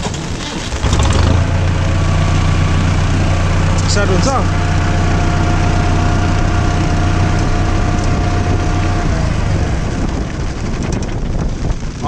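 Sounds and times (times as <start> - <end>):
tractor diesel engine idling: 0.0 - 11.4.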